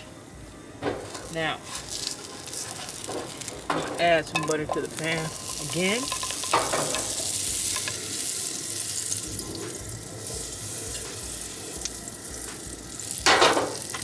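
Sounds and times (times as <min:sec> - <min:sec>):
butter sizzling in a pan: 0:01.0 - 0:14.0.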